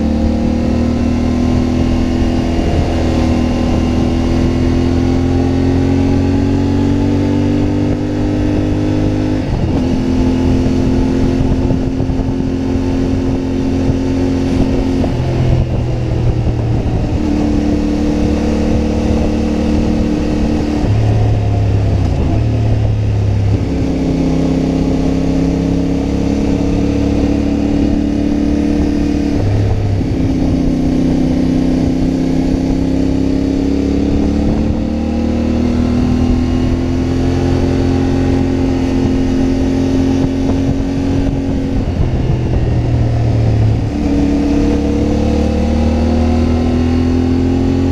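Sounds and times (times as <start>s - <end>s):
motorcycle engine shifting up: 0.0s - 47.9s.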